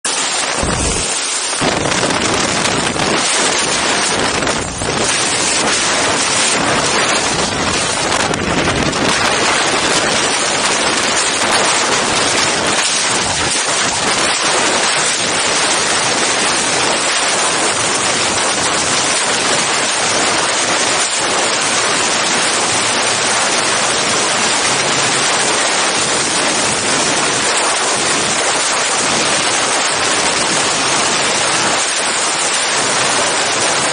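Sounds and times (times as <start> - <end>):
wind rushing on microphone: 0.2 - 33.9.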